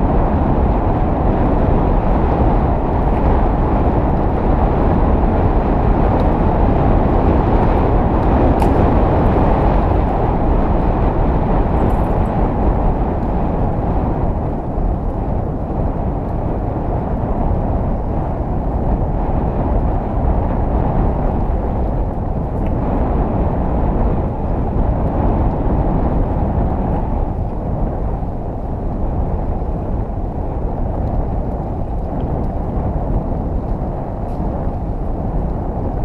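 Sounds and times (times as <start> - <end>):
wind on microphone: 0.0 - 36.0.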